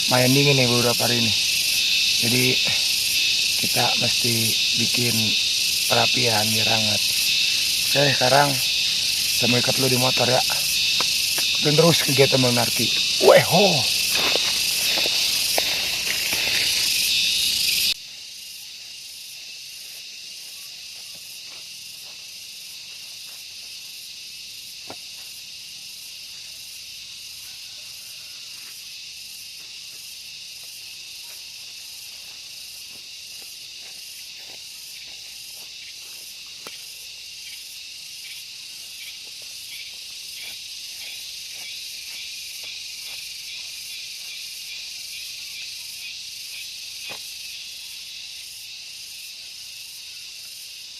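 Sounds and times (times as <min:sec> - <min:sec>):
insect buzzing: 0:00.0 - 0:50.9.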